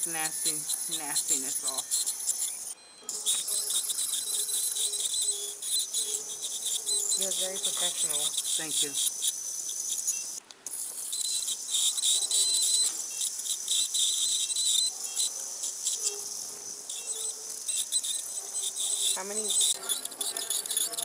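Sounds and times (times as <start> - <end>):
dental scaler buzzing hiss: 0.0 - 21.0.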